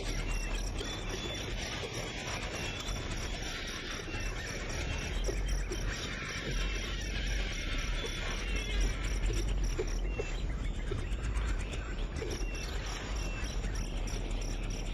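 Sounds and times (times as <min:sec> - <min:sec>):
insects chirring: 0:00.0 - 0:14.9.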